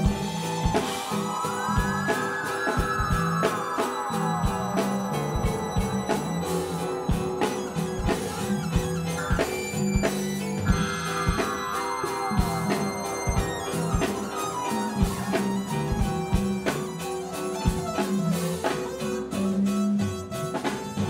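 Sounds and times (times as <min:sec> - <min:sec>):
falling electronic pitch sweep: 0:00.0 - 0:18.0
live band instrumental groove: 0:00.0 - 0:21.0.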